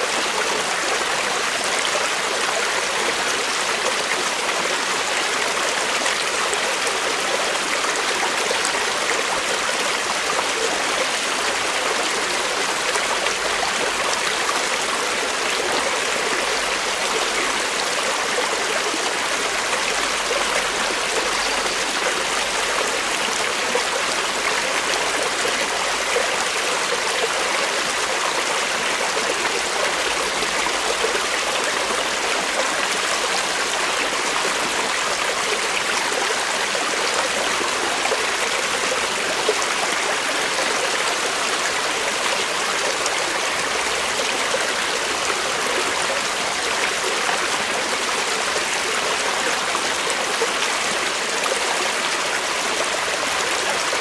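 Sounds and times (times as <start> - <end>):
creek babbling over rocks: 0.0 - 54.0.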